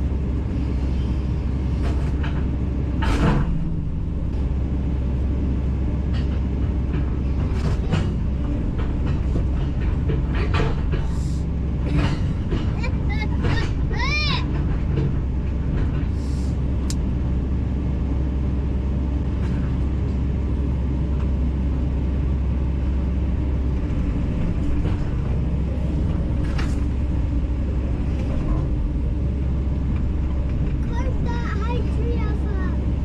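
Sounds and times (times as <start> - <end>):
heavy engine rumbling: 0.0 - 33.0.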